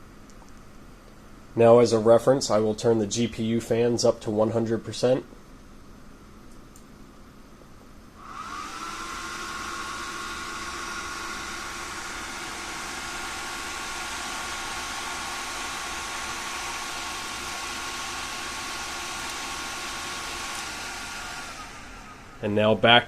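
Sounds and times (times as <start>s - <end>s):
computer fans whining: 0.0s - 23.0s.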